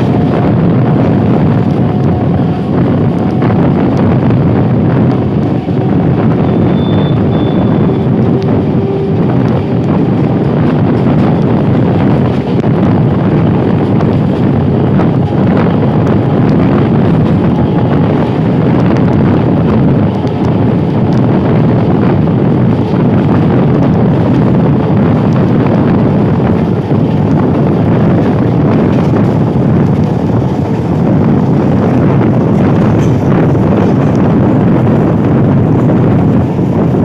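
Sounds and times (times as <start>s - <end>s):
electric train running on track: 0.0s - 37.0s
wind buffeting microphone: 0.0s - 37.0s.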